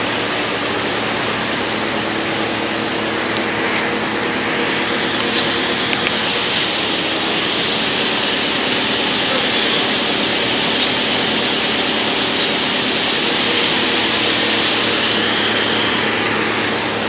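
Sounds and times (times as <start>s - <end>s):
wood chipper running: 0.0s - 17.0s.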